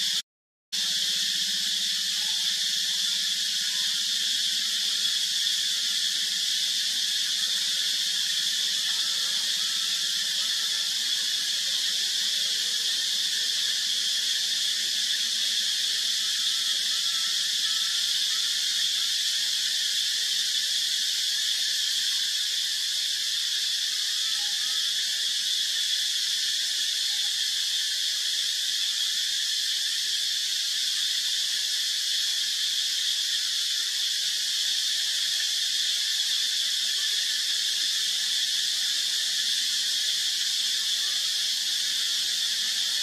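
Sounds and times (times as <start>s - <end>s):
insect chorus buzzing: 0.0s - 0.2s, 0.8s - 43.0s.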